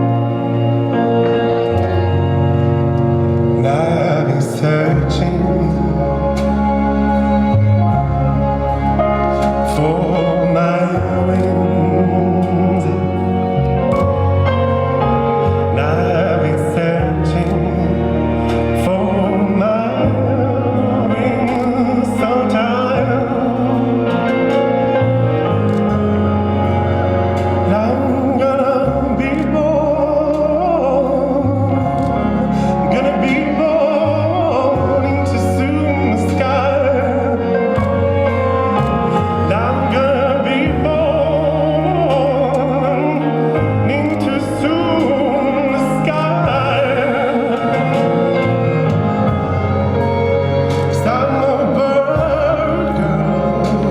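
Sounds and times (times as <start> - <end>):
sustained low chords: 0.0 - 53.9
operatic singing voice: 2.8 - 14.4, 15.4 - 53.9.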